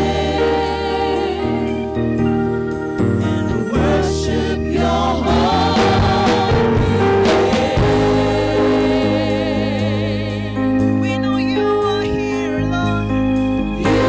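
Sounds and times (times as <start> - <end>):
sustained low chords: 0.0 - 14.0
voices singing long notes: 0.0 - 14.0.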